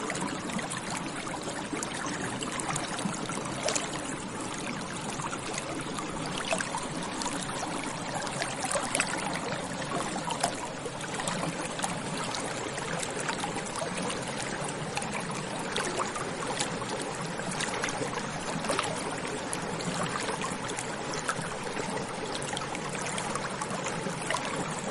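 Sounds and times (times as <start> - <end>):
small water splashes: 0.0 - 24.9
stream flowing: 0.0 - 24.9.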